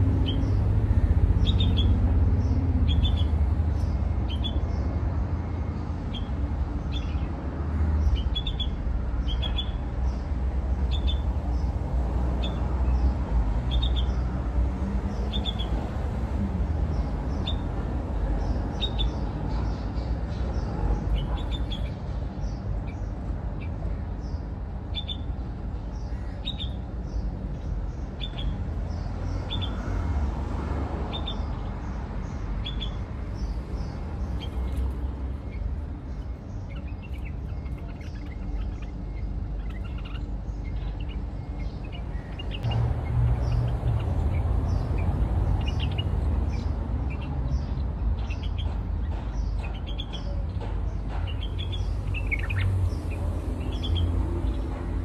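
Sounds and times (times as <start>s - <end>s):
bird chirping: 0.0s - 7.4s, 8.0s - 11.8s, 12.4s - 14.3s, 18.3s - 29.9s, 31.1s - 54.8s.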